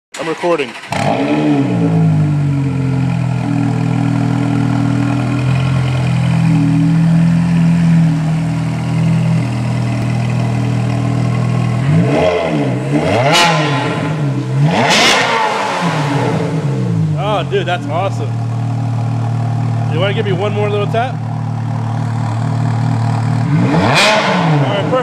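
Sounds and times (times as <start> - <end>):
exhaust crack: 0.1 - 25.0
car engine idling and revving: 0.2 - 25.0.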